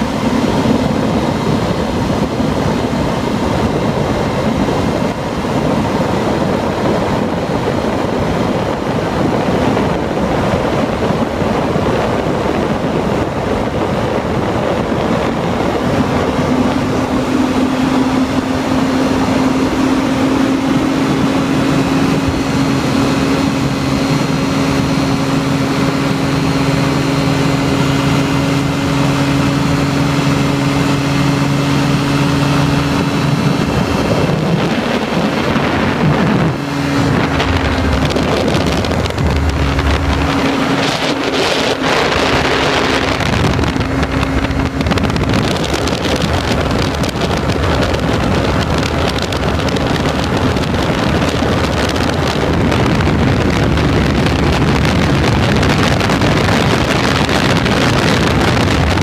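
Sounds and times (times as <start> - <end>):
aircraft engine droning: 0.0 - 59.0
wind rush on microphone: 0.0 - 59.0.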